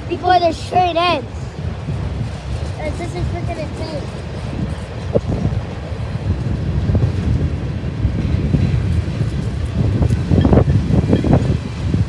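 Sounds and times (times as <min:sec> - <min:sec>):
train wheels rumbling on rails: 0:00.0 - 0:12.0
train cars knocking: 0:00.1 - 0:12.0.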